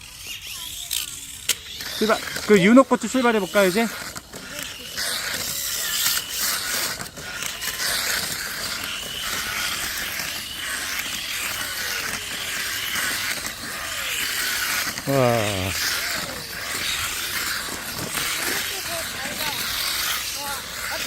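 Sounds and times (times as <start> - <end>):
toy car whirring on track: 0.0 - 21.0.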